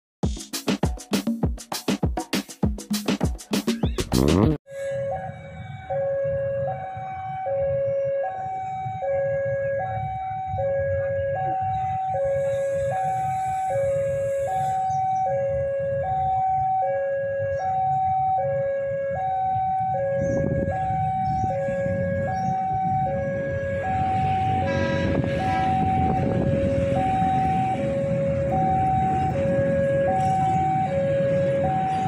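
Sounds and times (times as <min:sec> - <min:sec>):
background traffic rumble: 0:04.0 - 0:32.0
level crossing two-tone alarm: 0:04.7 - 0:32.0.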